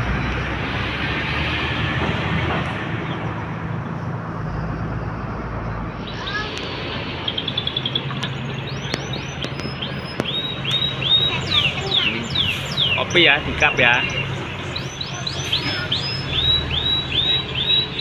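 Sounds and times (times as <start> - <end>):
bus engines idling: 0.0 - 18.0
birds chirping: 2.1 - 18.0.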